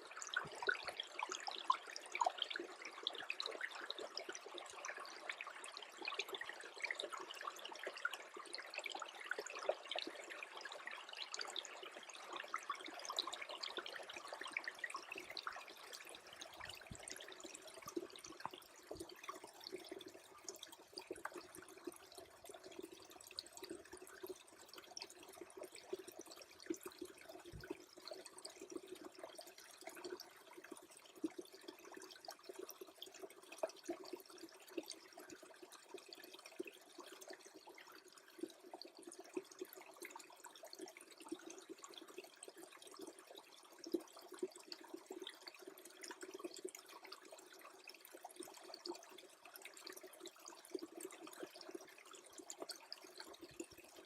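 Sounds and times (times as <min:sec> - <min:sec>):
stream trickling: 0:00.0 - 0:54.0.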